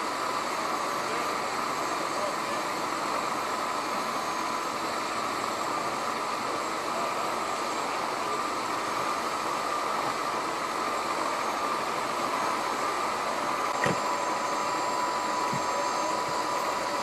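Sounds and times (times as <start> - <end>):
thin steady whine: 0.0 - 17.0.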